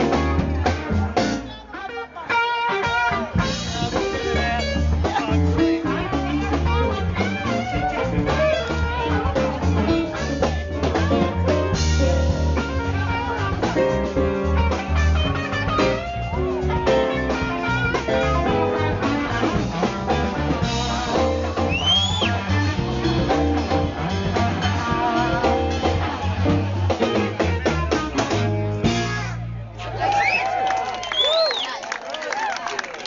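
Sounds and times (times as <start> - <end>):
live blues band playing: 0.0 - 30.2.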